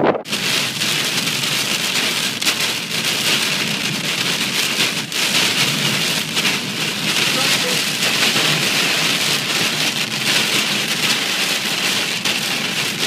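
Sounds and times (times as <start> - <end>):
rain and hail hitting vehicle: 0.3 - 13.0.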